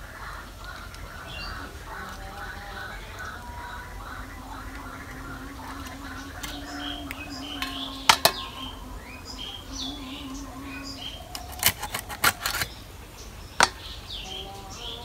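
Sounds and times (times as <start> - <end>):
birds chirping: 0.0 - 15.0
low hum: 0.0 - 15.0.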